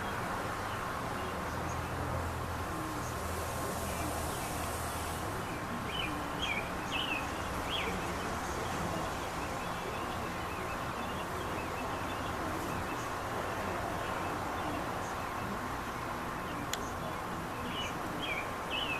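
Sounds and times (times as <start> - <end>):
background hiss: 0.0 - 18.9.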